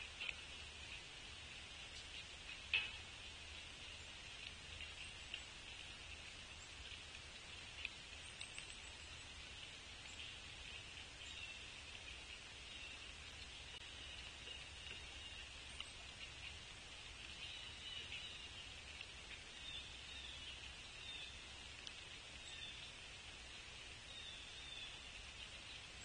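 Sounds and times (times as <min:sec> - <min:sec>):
faint ticks and taps: 0:00.0 - 0:23.4
steady high hiss: 0:00.0 - 0:26.0.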